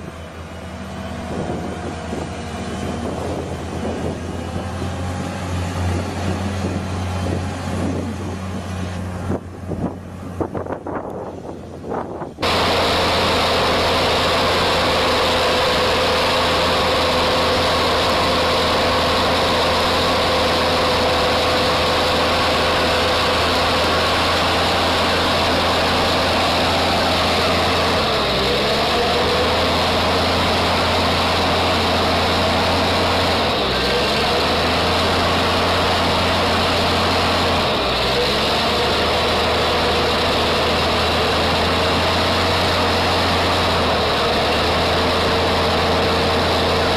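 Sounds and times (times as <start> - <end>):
heavy vehicle engine running: 0.0 - 46.9.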